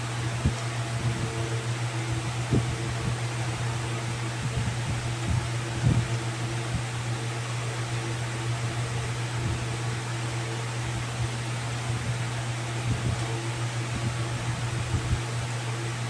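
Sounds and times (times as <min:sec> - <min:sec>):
steady mechanical hum and hiss: 0:00.0 - 0:16.0.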